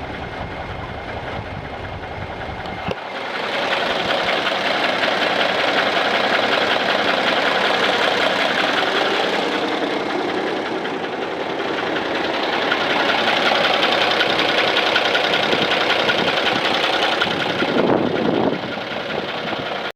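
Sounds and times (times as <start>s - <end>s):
diesel truck engine clattering: 0.0s - 19.9s.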